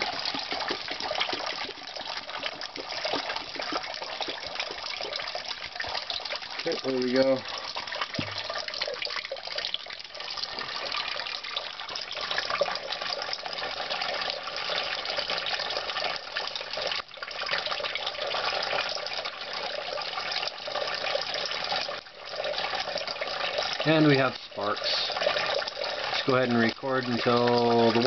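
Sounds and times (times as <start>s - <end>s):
water splashing into metal buckets: 0.0s - 28.0s.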